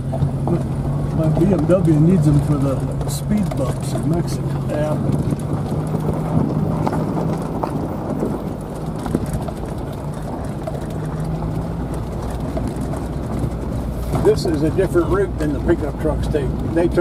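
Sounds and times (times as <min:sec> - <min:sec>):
stones knocking under car: 0:00.0 - 0:15.8
low engine hum: 0:00.0 - 0:17.0
tyre rumble on gravel: 0:00.0 - 0:17.0.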